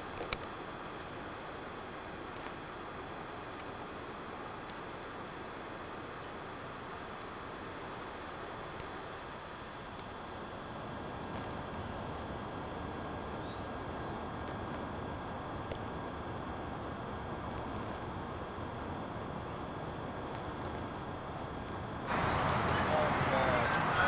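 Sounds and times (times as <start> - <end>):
low rumble with hiss: 0.0 - 24.0.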